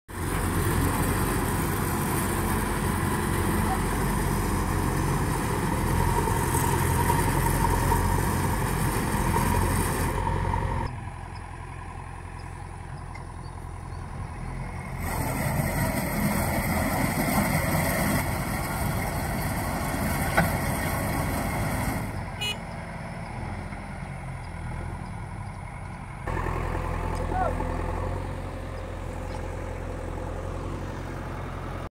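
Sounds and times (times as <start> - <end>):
diesel engine rumbling: 0.1 - 31.9.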